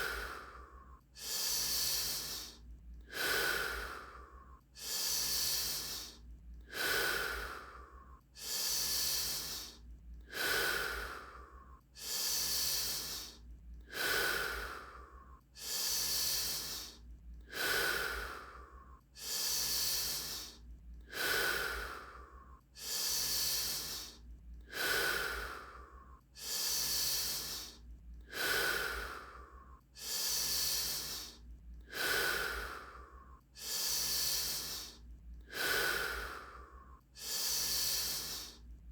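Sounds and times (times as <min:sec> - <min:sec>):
forceful breathing: 0:00.0 - 0:38.7
steady low hum: 0:00.0 - 0:38.9.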